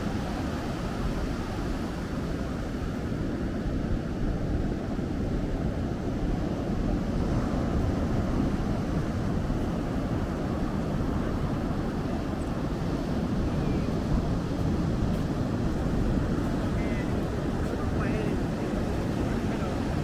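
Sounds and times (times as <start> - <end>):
ocean surf: 0.0 - 20.0
wind on microphone: 0.0 - 20.0.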